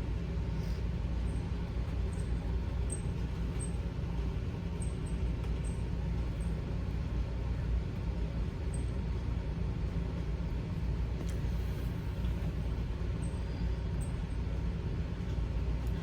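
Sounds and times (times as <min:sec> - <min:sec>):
room background rumble: 0:00.0 - 0:16.0.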